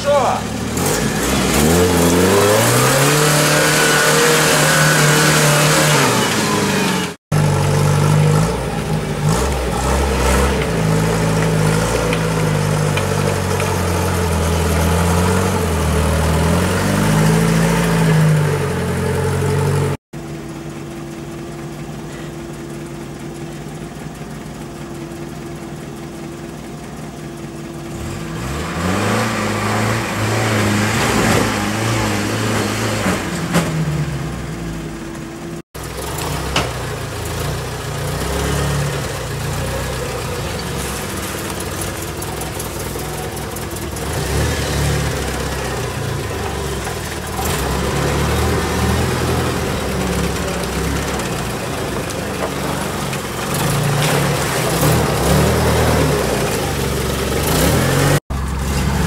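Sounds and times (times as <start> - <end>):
off-road vehicle engine revving: 0.0 - 20.0, 27.8 - 59.0.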